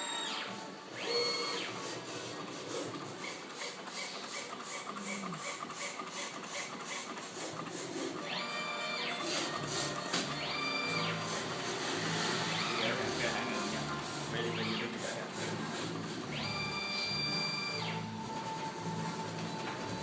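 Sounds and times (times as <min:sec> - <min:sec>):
drive motors whining: 0:00.0 - 0:06.0, 0:08.1 - 0:20.0.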